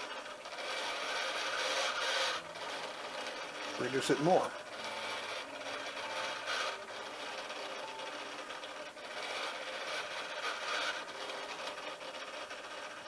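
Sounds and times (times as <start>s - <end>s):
servo motor rasping whir: 0.0s - 13.0s.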